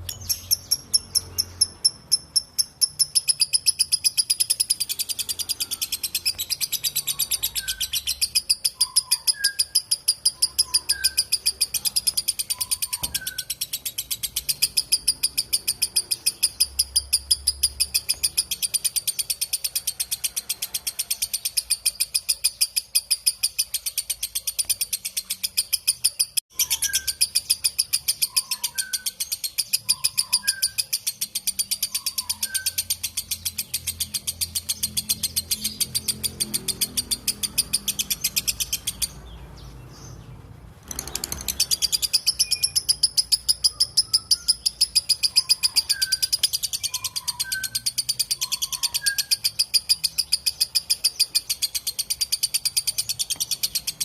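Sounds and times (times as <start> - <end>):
lovebird chirping: 0.0 - 54.0.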